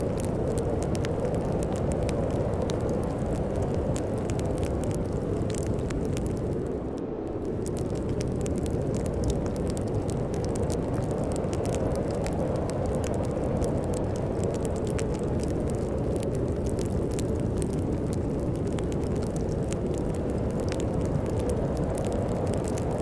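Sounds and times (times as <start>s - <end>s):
storm wind rumbling: 0.0s - 23.0s
wood fire crackling and popping: 0.0s - 23.0s.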